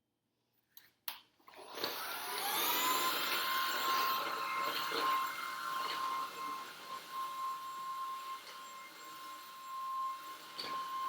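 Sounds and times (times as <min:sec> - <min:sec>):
vacuum motor whine: 0:01.5 - 0:11.0.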